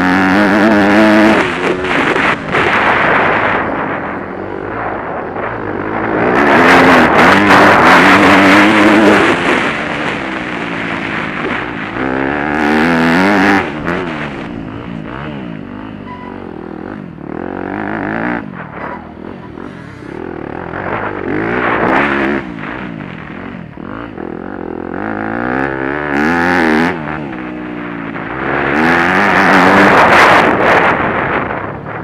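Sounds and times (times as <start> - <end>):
loud rushing noise: 0.0 - 26.0
motocross engine revving: 0.0 - 31.4.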